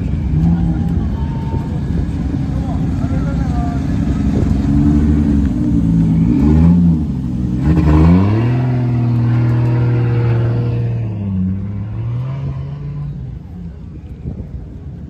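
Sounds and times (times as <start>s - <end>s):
car engine revving: 0.0s - 14.1s.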